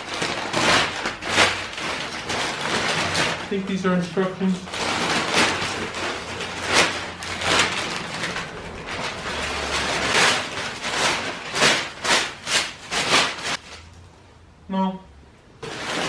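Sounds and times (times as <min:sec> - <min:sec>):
paper rustling and crinkling: 0:00.0 - 0:13.9, 0:15.6 - 0:16.0.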